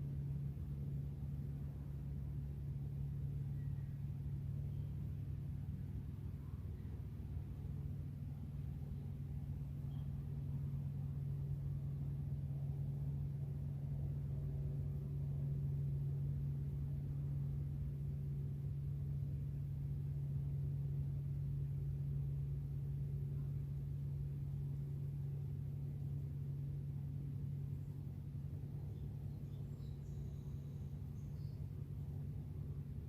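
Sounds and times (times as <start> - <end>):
steady low drone: 0.0 - 33.0.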